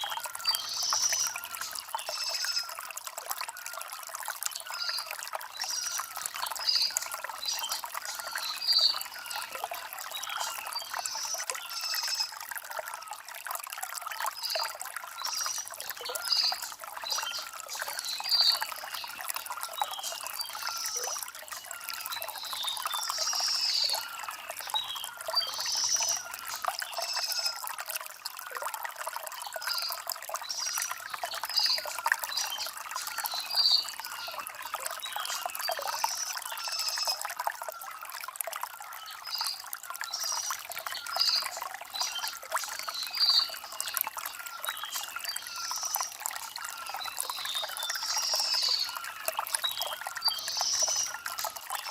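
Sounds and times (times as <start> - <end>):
stream trickling over stones: 0.0 - 51.9.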